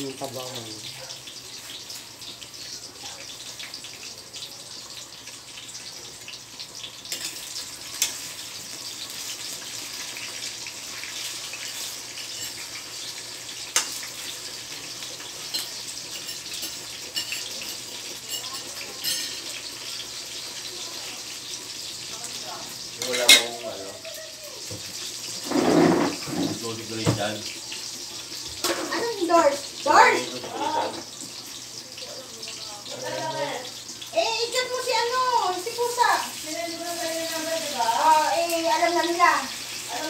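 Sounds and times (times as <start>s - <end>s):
eggplant sizzling in hot oil: 0.0s - 40.0s.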